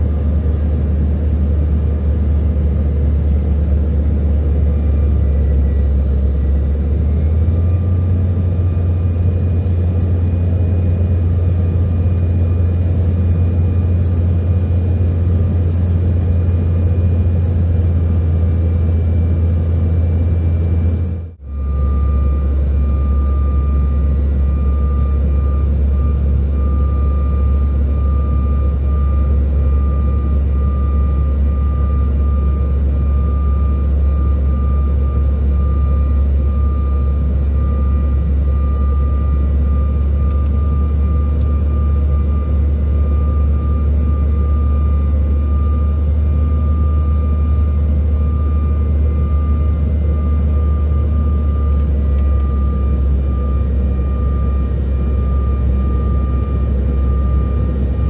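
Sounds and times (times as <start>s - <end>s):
jet cabin engine drone: 0.0s - 58.0s
faint whine: 1.8s - 58.0s.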